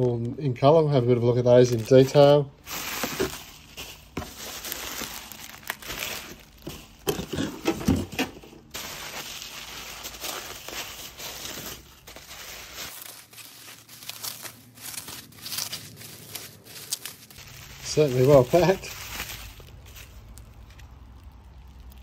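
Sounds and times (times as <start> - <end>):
bubble wrap crinkling: 1.4 - 22.0.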